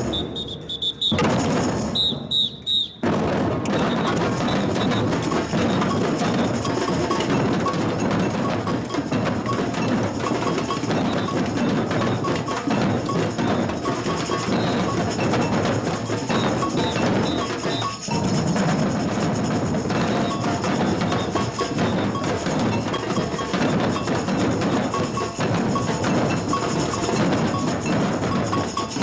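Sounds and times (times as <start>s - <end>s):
massed drums: 3.0s - 29.0s.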